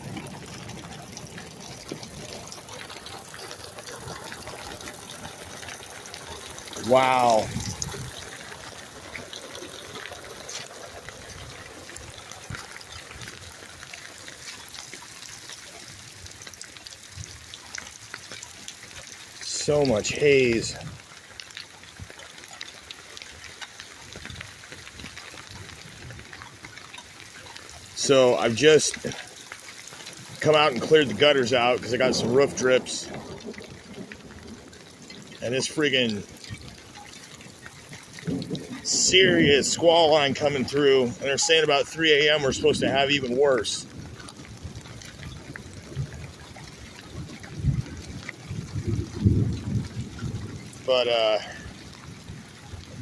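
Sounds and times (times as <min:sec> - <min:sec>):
heavy rain: 0:00.0 - 0:53.0
raindrops ticking: 0:00.0 - 0:53.0
running water gushing: 0:00.0 - 0:53.0.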